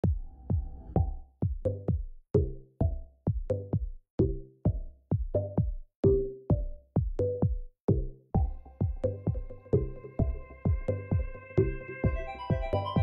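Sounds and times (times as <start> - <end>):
electronic music with drum-machine beat: 0.0 - 13.0.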